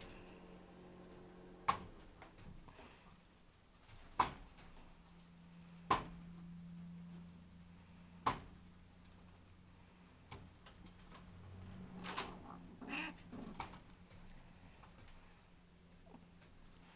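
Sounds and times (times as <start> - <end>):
rabbits rattling wire cage: 0.0 - 16.8.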